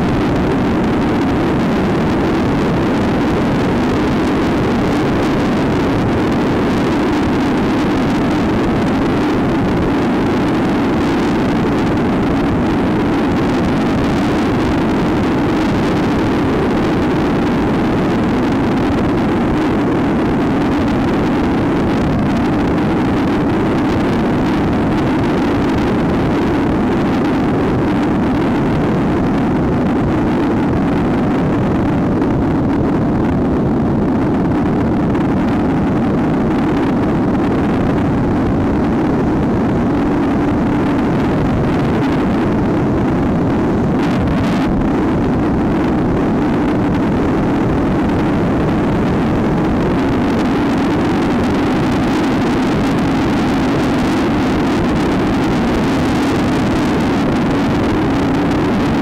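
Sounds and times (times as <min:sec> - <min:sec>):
wind rush on microphone: 0:00.0 - 0:59.0.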